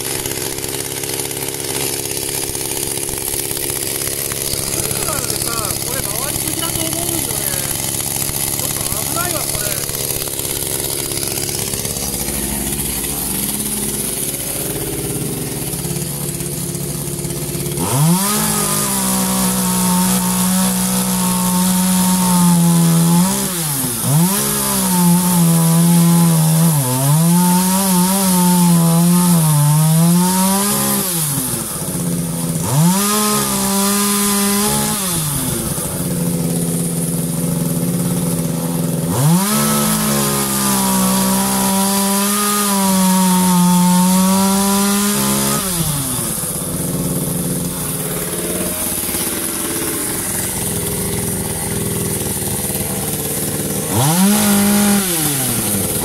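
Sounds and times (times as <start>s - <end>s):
chainsaw cutting wood: 0.0s - 56.0s
chainsaw idling and revving: 0.0s - 56.0s.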